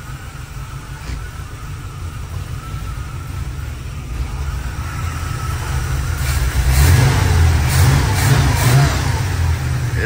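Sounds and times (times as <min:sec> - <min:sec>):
engine idling: 0:00.0 - 0:10.0
engine revving: 0:00.0 - 0:10.0.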